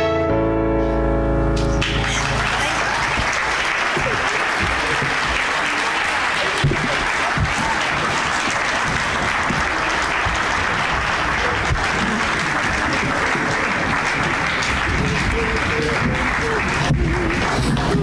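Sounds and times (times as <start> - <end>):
audience applauding: 1.6 - 18.0.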